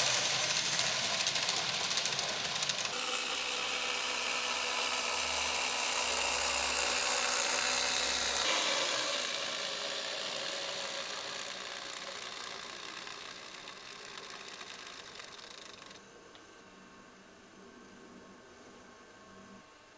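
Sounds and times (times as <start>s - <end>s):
model train motor whirring: 0.0s - 16.1s.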